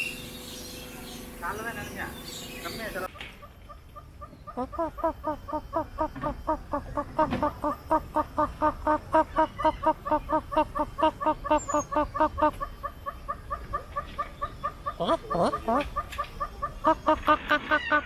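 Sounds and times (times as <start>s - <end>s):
bird calling nasal notes: 2.4s - 18.0s.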